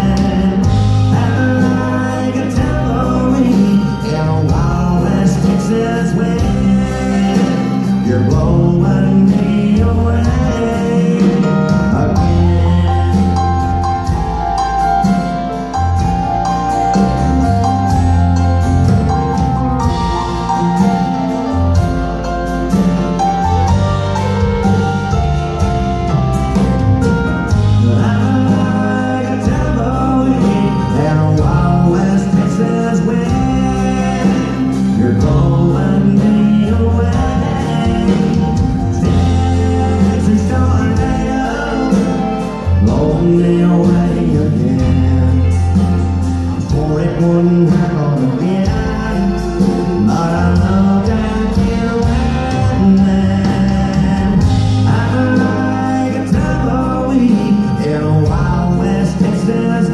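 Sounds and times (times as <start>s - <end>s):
bass line: 0.0s - 59.9s
guitar: 0.0s - 59.9s
live country band: 0.0s - 59.9s.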